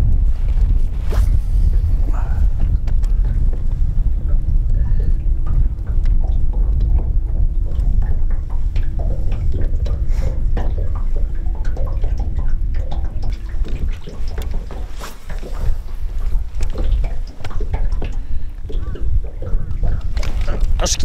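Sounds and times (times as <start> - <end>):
low rumble: 0.0 - 21.0
thin steady hum: 0.0 - 21.0
water splashing and dripping: 0.0 - 21.0.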